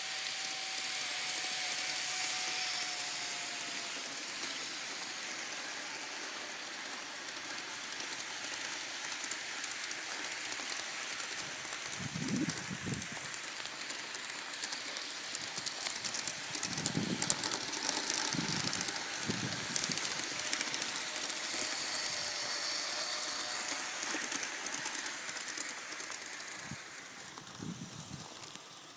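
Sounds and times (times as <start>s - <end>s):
thin high whine: 0.0s - 25.5s
model train wheels clicking: 0.0s - 28.9s.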